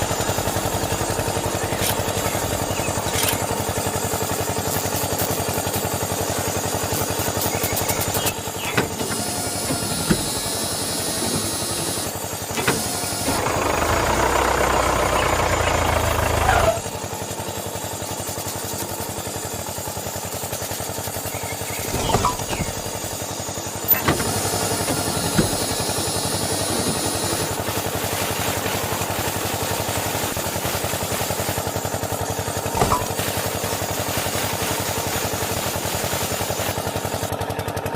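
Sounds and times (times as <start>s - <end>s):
electric motor rattling: 0.0s - 37.9s.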